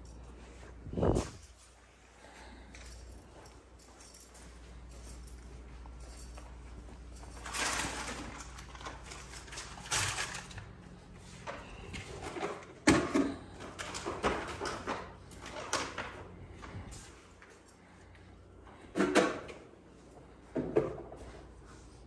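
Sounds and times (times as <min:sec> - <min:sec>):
rustling and clattering of objects: 0:00.0 - 0:22.0.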